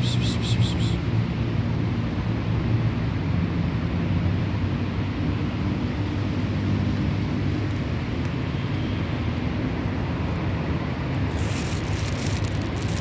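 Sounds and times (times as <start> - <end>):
engine rumbling: 0.0 - 13.0
outdoor noise hiss: 0.0 - 13.0.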